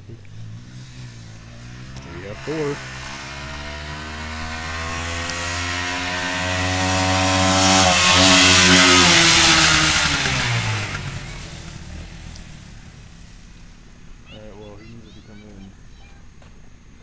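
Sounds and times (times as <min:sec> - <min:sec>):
dirt bike passing by: 0:00.0 - 0:15.2.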